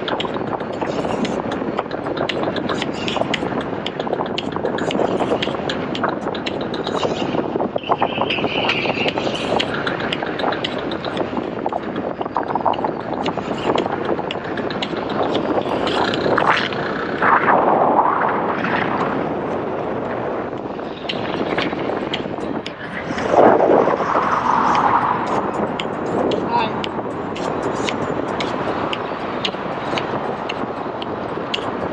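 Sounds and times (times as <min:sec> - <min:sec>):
motorcycle at high speed: 0:00.0 - 0:31.9
wind rush: 0:00.0 - 0:31.9.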